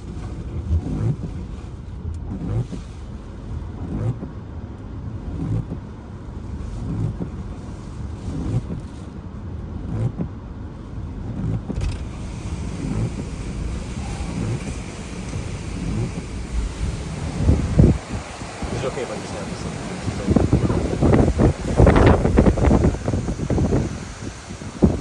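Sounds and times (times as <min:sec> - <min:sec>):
hiss of wind-driven rain: 0:00.0 - 0:25.0
hurricane winds buffeting a car: 0:00.0 - 0:25.0.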